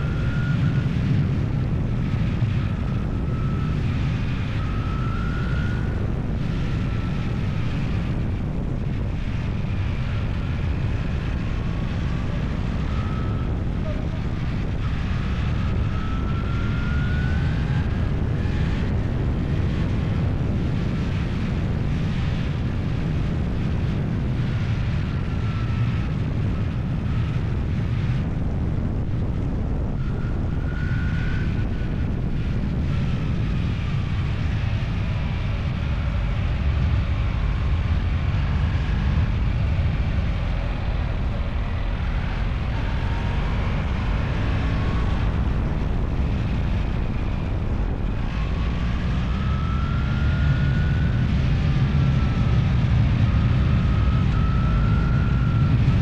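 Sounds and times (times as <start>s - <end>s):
faint rising whines: 0.0s - 56.0s
vehicle engine running: 0.0s - 56.0s
wind rumble on microphone: 0.0s - 56.0s.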